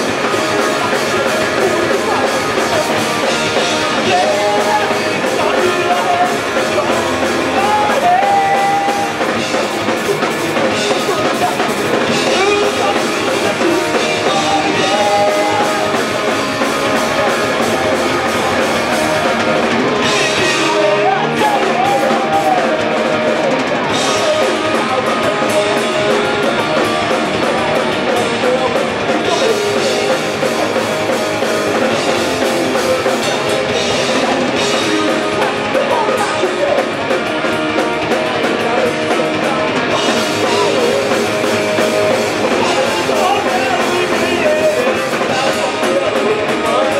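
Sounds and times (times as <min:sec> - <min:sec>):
punk rock band playing live: 0:00.0 - 0:46.9.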